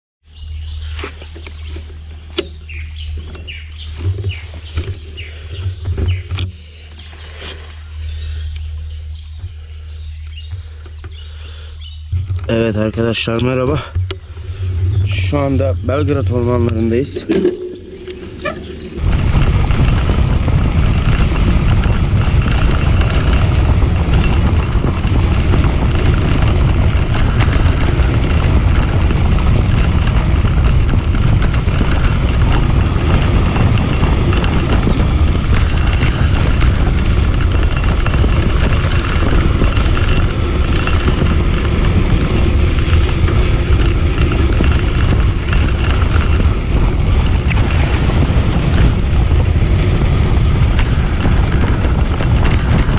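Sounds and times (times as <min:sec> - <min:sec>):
bicycle rattle and rumble: 0:00.2 - 0:52.9
wind buffeting microphone: 0:00.3 - 0:52.9.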